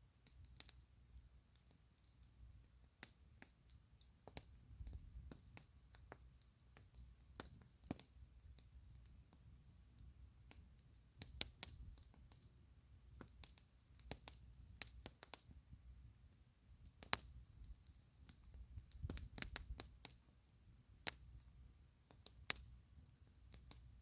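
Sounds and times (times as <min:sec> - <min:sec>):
campfire crackling: 0:00.1 - 0:24.0.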